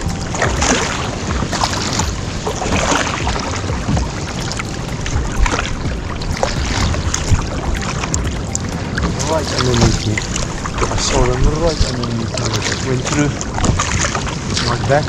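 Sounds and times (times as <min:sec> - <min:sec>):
water splashing against kayak hull: 0:00.0 - 0:15.0
wind rumble on microphone: 0:00.0 - 0:15.0.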